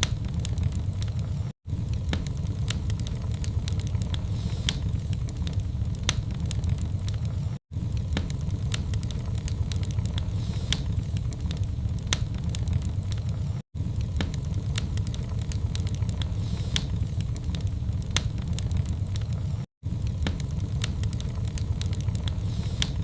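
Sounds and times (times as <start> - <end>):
low rumble of fire: 0.0 - 23.0
wood fire crackling and popping: 0.0 - 23.0.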